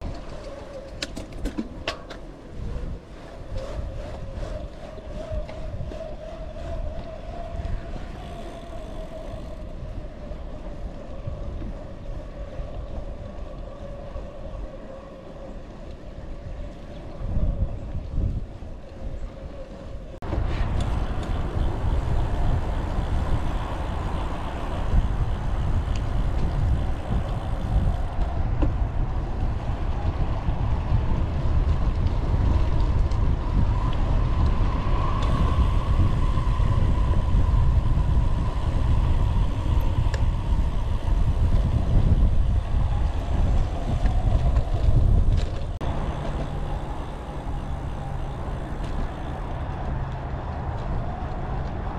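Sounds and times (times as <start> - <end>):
wind rush over microphone: 0.0 - 51.9.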